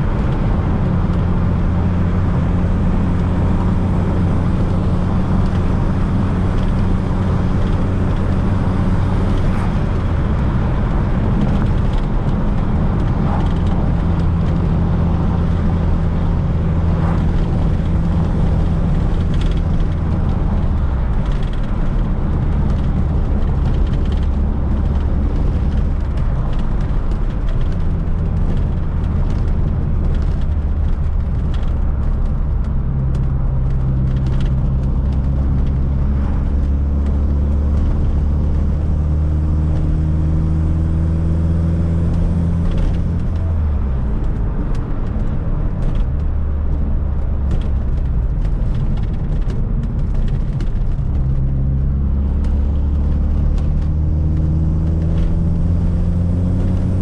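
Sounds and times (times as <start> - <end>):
car engine droning: 0.0 - 57.0
road noise inside car: 0.0 - 57.0.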